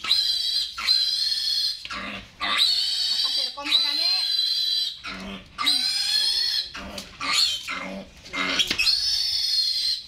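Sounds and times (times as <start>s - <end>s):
piglet squealing: 0.0s - 10.0s.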